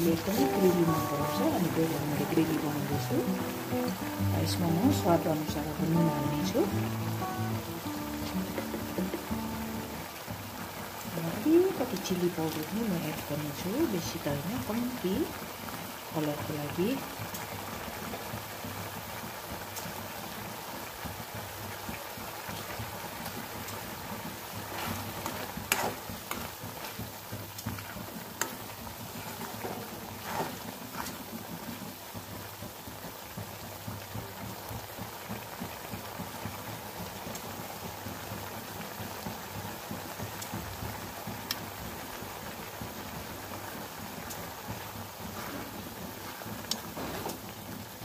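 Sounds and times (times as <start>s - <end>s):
gravy bubbling and sizzling in pan: 0.0s - 48.0s.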